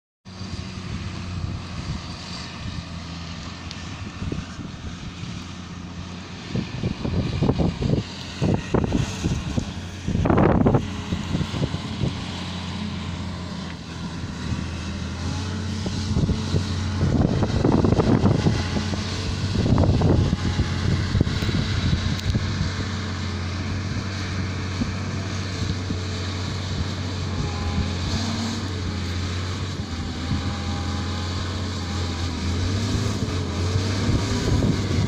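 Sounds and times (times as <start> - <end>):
truck diesel engine droning: 0.2 - 35.0
wind buffeting microphone: 0.3 - 35.0.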